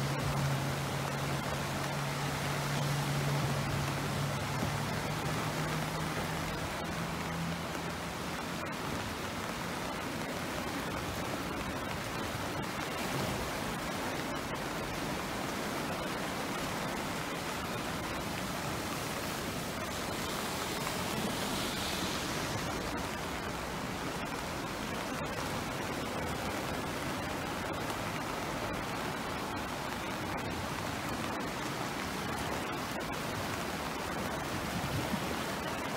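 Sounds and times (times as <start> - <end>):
flooded river rushing: 0.0 - 35.9.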